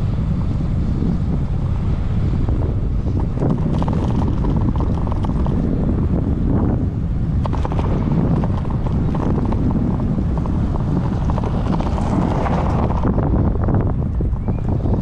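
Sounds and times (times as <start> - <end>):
tyre and road rumble: 0.0 - 15.0
wind buffeting microphone: 0.0 - 15.0.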